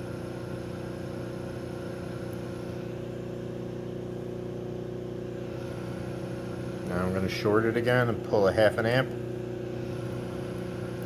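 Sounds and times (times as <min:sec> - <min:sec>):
spinning rotor humming: 0:00.0 - 0:11.0.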